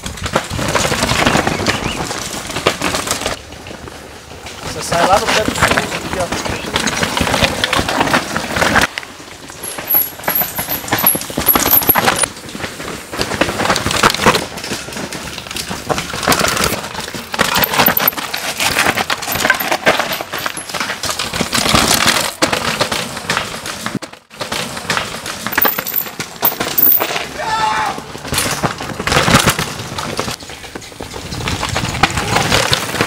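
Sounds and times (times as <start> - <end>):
mountain bikes rattling: 0.0 - 33.0
tyres scrabbling over dirt: 0.0 - 33.0.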